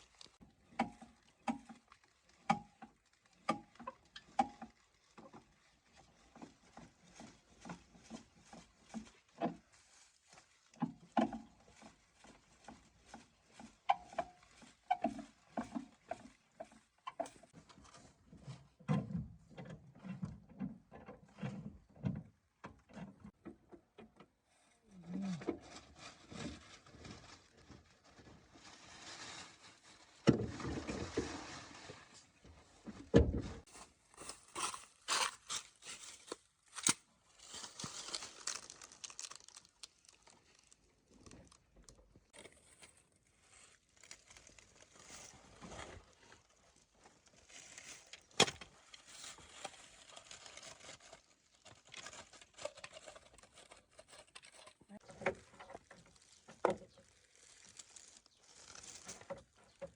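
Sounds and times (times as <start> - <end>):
handling knocks and scrapes: 0.0 - 24.2, 25.2 - 59.9.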